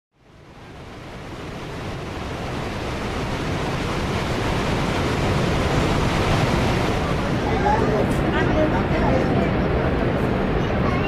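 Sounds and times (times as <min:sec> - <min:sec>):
waterfall roaring: 0:00.2 - 0:11.0.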